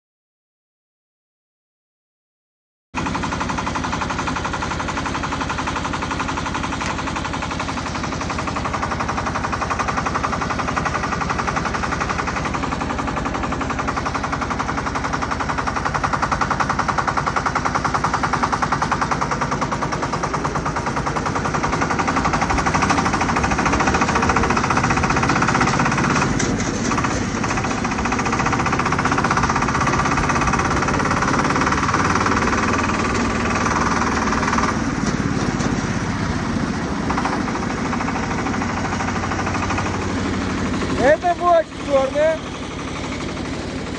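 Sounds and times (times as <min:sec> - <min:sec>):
tractor diesel engine clattering: 0:03.0 - 0:43.9.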